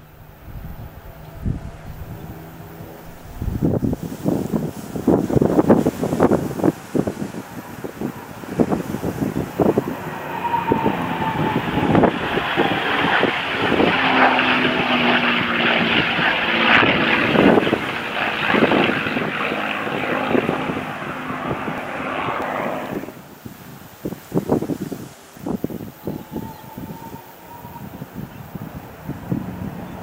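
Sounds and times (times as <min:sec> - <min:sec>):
propeller plane engine flying past: 0:00.0 - 0:30.0.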